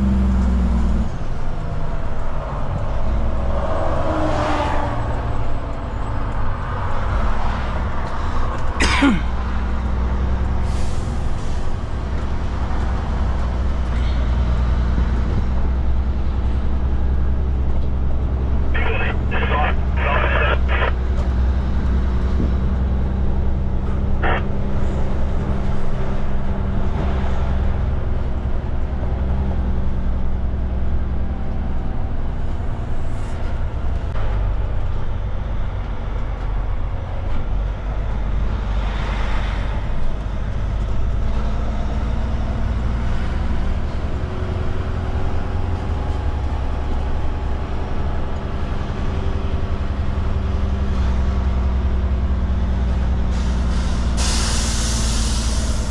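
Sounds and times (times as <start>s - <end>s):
truck diesel engine droning: 0.0s - 38.9s, 39.6s - 55.9s.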